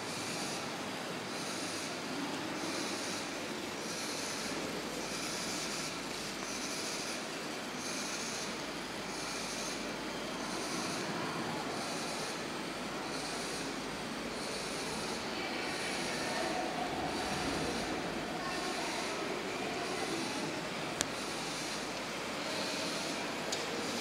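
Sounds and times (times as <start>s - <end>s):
electric gear motors running: 0.0s - 24.0s.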